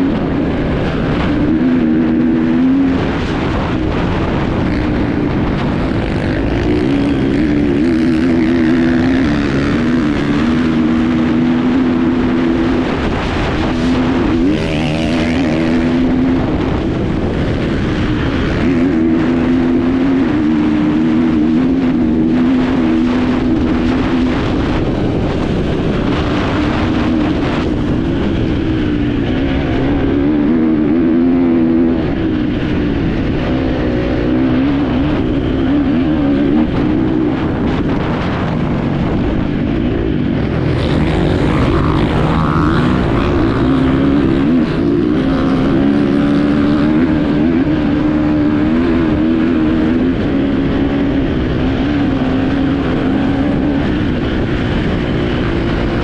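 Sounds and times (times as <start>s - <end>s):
motorcycle engine revving: 0.0s - 56.0s
rushing noise: 0.0s - 56.0s.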